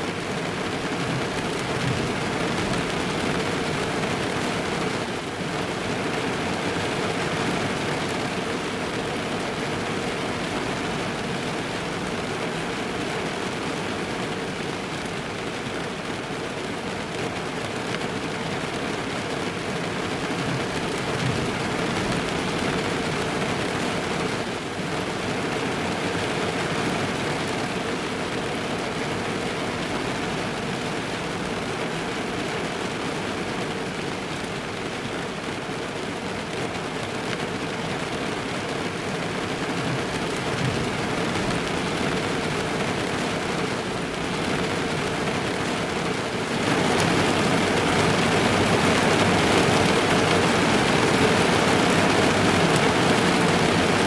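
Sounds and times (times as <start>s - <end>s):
rain drumming on a car roof: 0.0s - 54.0s.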